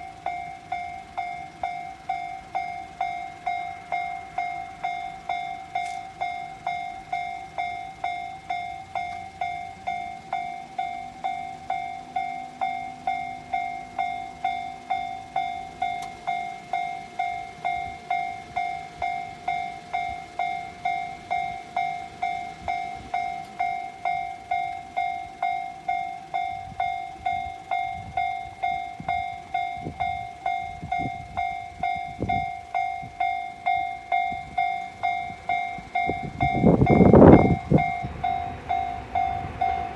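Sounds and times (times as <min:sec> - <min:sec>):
level crossing bell ringing: 0:00.0 - 0:39.9
train rumbling over crossing: 0:00.0 - 0:39.9
train wheels knocking: 0:00.0 - 0:39.9.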